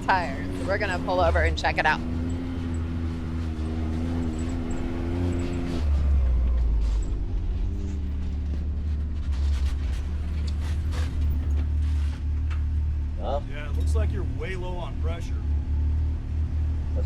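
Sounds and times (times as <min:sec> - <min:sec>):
off-road vehicle engine rumbling: 0:00.0 - 0:17.0.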